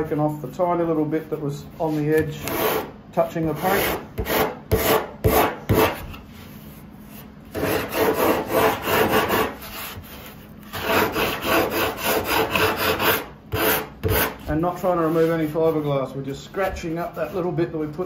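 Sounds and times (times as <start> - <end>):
sanding block scraping: 1.8 - 2.9, 3.5 - 17.6.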